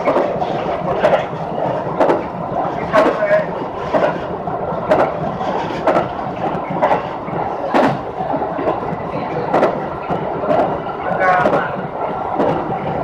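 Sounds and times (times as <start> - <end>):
train running noise: 0.0 - 13.0
wheel clacks over rail joints: 0.0 - 13.0.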